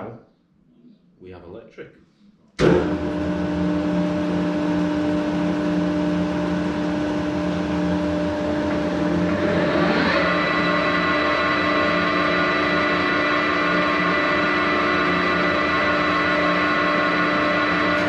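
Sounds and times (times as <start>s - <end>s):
higher whine: 2.6s - 18.0s
machine tool hum and whine: 2.6s - 18.0s.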